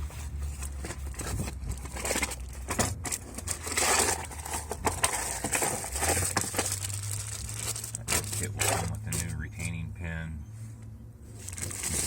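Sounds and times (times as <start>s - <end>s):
rustling handling noise: 0.0s - 9.8s, 10.6s - 12.0s.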